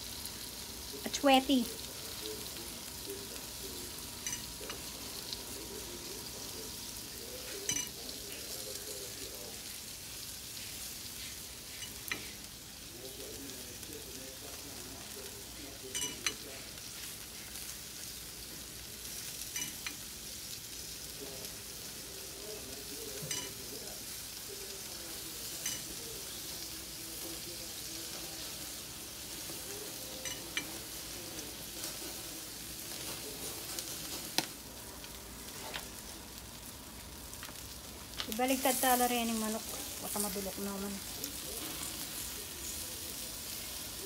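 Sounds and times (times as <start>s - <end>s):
chicken sizzling on a grill: 0.0s - 44.0s.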